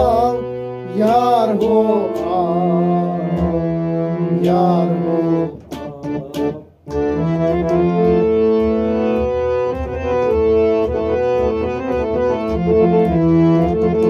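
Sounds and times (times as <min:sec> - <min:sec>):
harmonium melody: 0:00.0 - 0:14.0.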